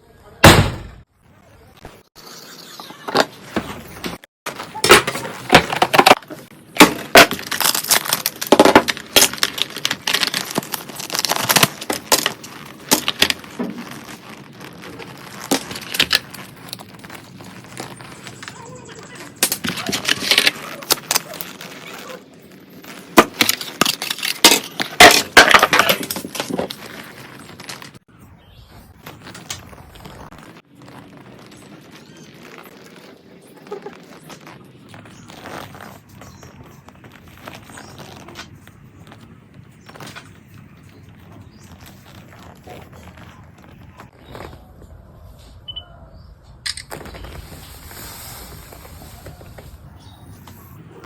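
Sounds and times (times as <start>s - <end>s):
card and plastic rustling: 3.2s - 28.0s, 29.0s - 44.7s, 46.7s - 51.0s.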